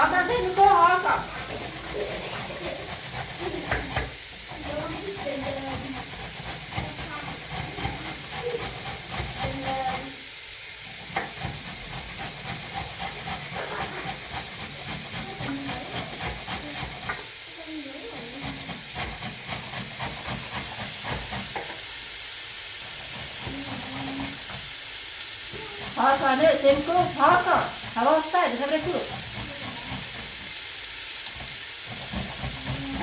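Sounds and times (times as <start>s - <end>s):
steady hissing: 0.0s - 33.0s.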